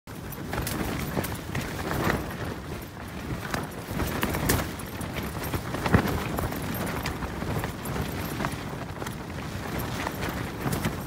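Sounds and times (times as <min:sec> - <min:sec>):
low wind rumble: 0:00.1 - 0:11.0
tent fabric flapping and snapping: 0:00.1 - 0:11.0.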